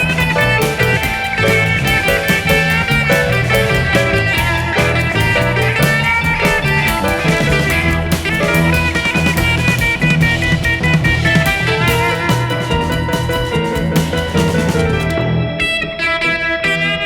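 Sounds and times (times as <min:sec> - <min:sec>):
steady drum beat: 0:00.0 - 0:15.3
guitar instrumental music: 0:00.0 - 0:17.0.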